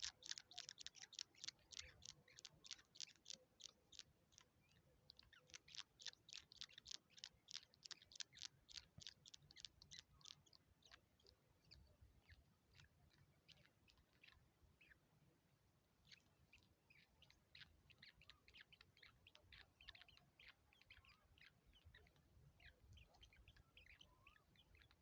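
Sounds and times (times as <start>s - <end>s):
birds' high clicking calls: 0.0s - 15.0s, 16.0s - 25.0s.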